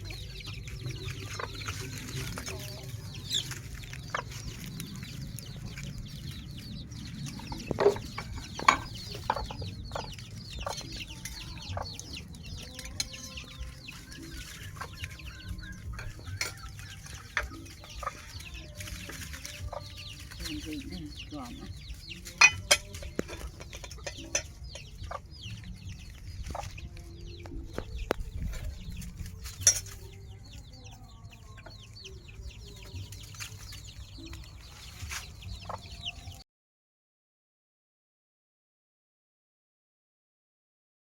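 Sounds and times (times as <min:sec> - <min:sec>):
chickens clucking: 0:00.0 - 0:36.4.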